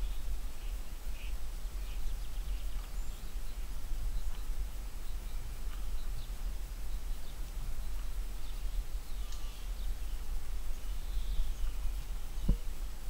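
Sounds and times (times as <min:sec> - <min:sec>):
faint bird chirps: 0:00.0 - 0:12.7.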